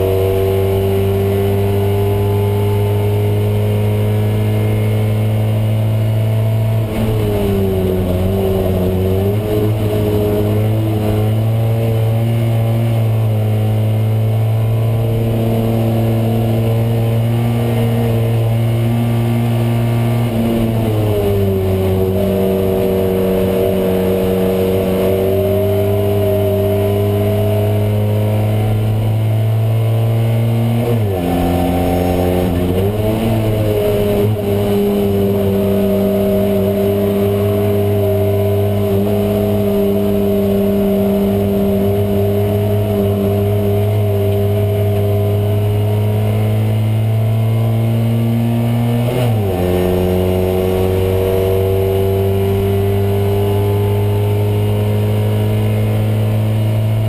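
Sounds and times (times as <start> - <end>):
car engine revving high: 0.0 - 57.0.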